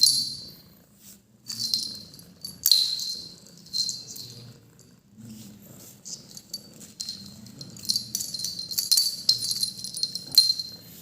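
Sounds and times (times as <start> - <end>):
cat collar bell jingling: 0.0 - 0.6, 1.5 - 5.0, 6.1 - 11.0.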